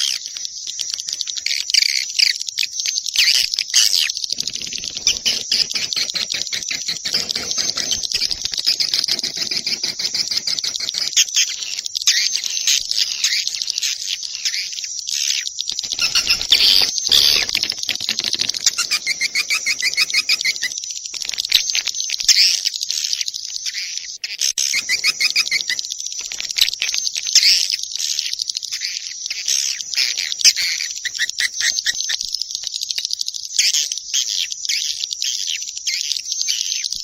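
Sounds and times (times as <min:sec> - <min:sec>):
swiftlets chirping and twittering: 0:00.0 - 0:37.0.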